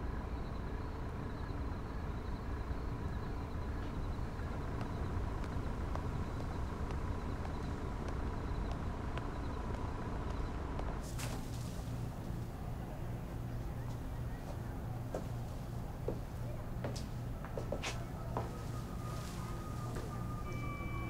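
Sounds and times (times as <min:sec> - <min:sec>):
faint steady hum: 0:00.0 - 0:21.0
steady low rumble: 0:00.4 - 0:21.0.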